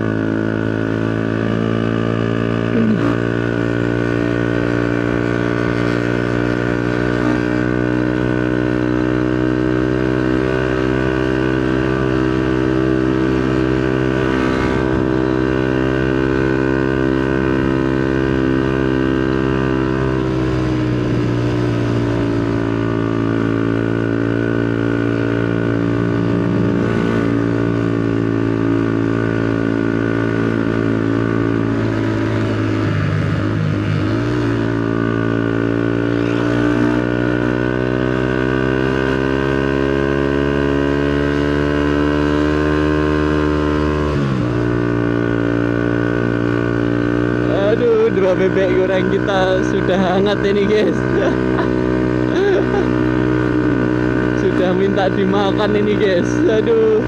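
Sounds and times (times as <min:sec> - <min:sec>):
two-stroke motorcycle engine: 0:00.0 - 0:57.0.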